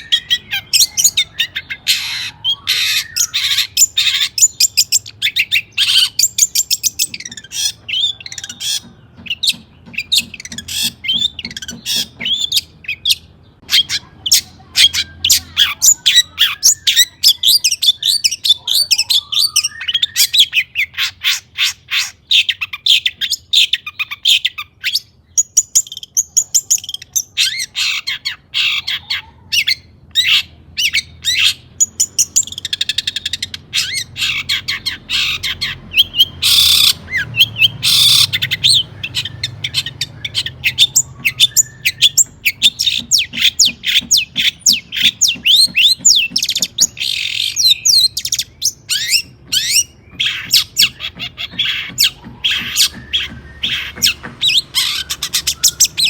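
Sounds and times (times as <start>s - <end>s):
shrike singing: 0.0s - 21.1s, 25.4s - 56.0s.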